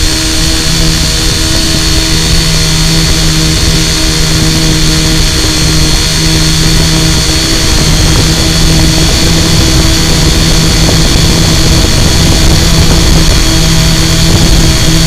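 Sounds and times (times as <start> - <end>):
drone motors and propellers humming: 0.0 - 15.0
high whine: 0.0 - 15.0.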